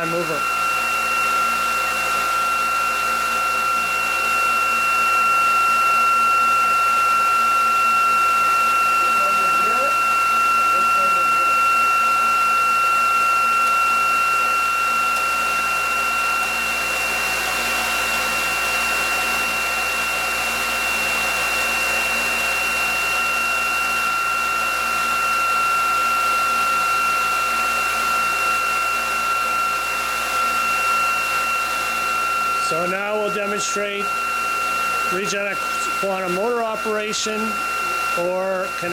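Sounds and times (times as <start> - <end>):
motor two-tone high whine: 0.0 - 38.9.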